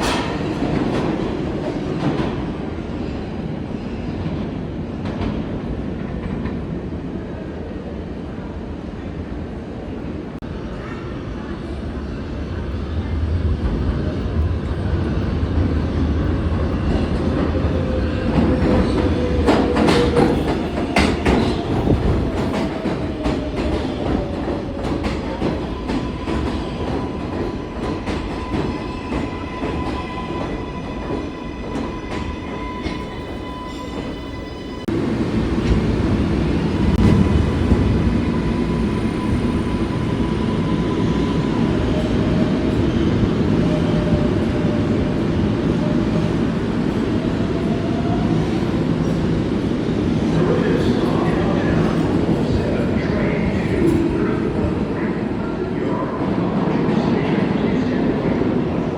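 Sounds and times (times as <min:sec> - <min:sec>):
subway train rumbling on rails: 0:00.0 - 0:58.9.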